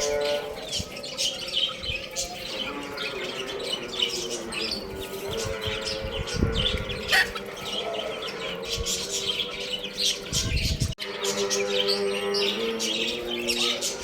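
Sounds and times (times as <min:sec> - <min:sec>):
baby chicks chirping: 0:00.0 - 0:14.0.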